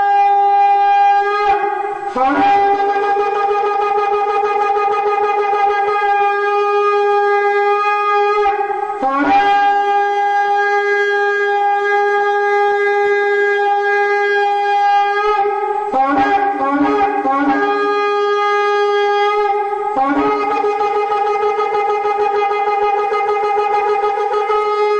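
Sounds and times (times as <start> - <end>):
shofar blasts: 0.0 - 24.9.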